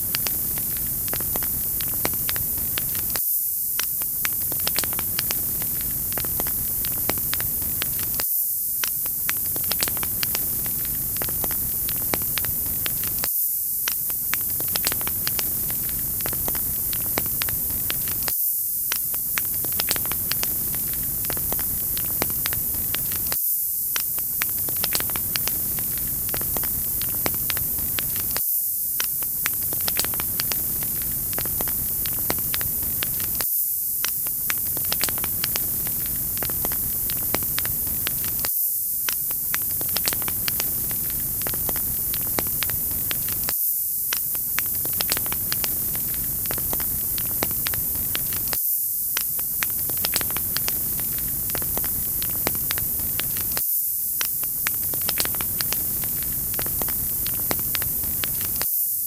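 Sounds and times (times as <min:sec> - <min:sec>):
wood fire crackling: 0:00.0 - 0:03.2, 0:03.8 - 0:08.2, 0:08.8 - 0:18.3, 0:18.9 - 0:28.4, 0:29.0 - 0:33.4, 0:34.0 - 0:43.5, 0:44.1 - 0:53.6, 0:54.2 - 0:58.6.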